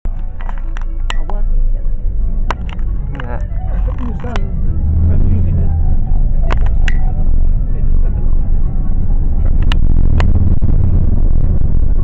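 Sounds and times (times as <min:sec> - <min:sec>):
car cabin rumble: 0:00.1 - 0:12.0.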